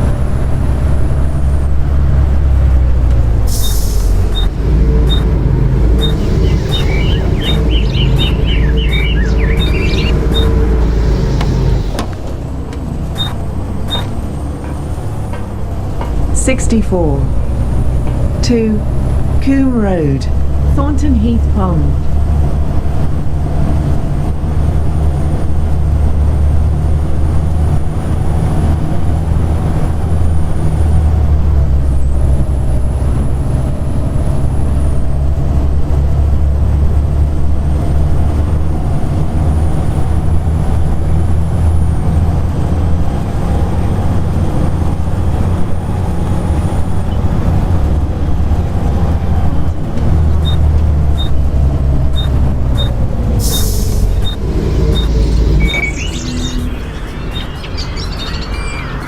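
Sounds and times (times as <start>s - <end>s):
bus engine drone with whine: 0.0s - 59.0s.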